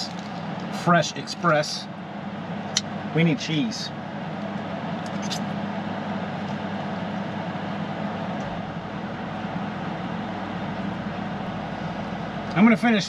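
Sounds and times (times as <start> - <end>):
air conditioner fan noise: 0.0 - 13.0
constant low hum: 0.0 - 13.0.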